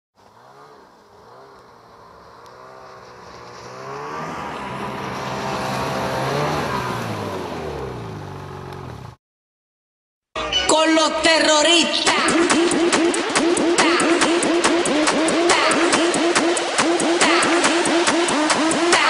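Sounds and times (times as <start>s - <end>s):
snowmobile engine revving: 0.2s - 9.2s, 11.8s - 19.0s.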